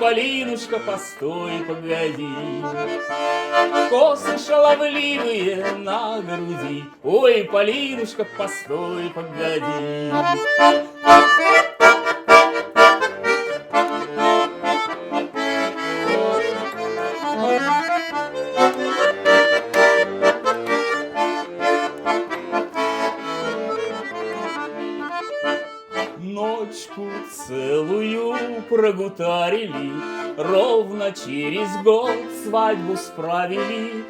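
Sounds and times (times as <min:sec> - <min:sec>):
button accordion playing folk melody: 0:00.0 - 0:34.0.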